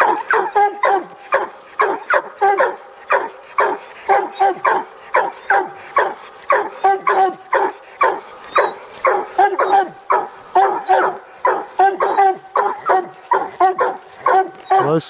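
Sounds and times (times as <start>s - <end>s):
dogs barking loudly: 0.0s - 15.0s.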